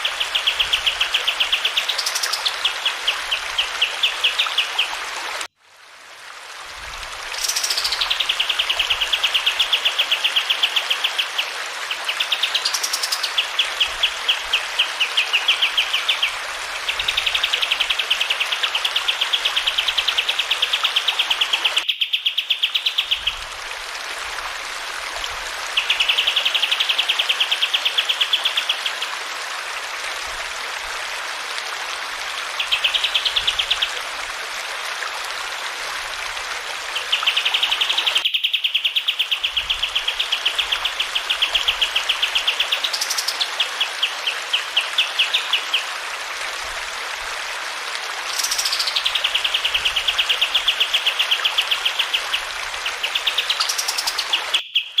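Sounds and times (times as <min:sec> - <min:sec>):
running water hiss: 0:00.0 - 0:55.0.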